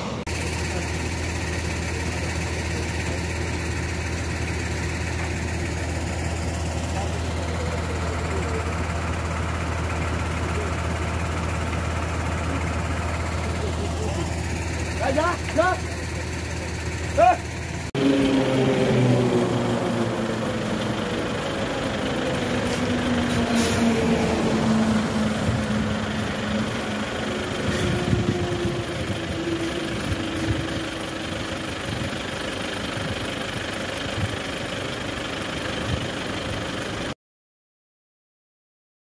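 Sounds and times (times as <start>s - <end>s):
truck engine drone passing: 0.0s - 37.0s
vehicle engine and road noise: 0.0s - 37.2s.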